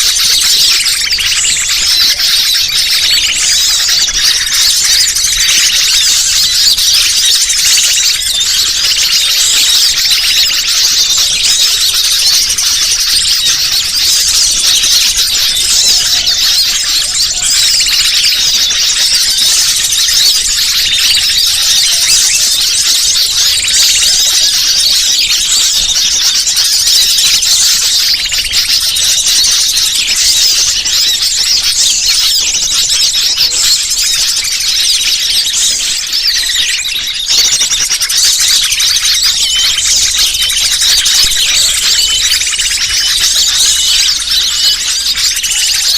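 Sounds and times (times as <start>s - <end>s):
small birds chirping chorus: 0.0s - 45.9s.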